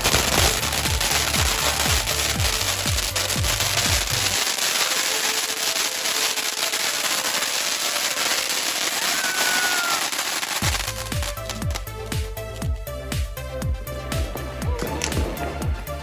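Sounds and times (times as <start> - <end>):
firework fountain hissing and crackling: 0.0 - 16.0.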